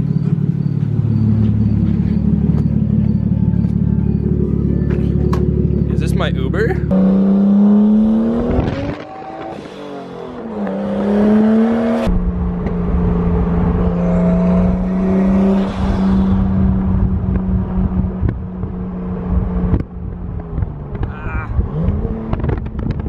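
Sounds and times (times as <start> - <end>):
car engine revving: 0.0 - 23.0
road noise: 0.0 - 23.0.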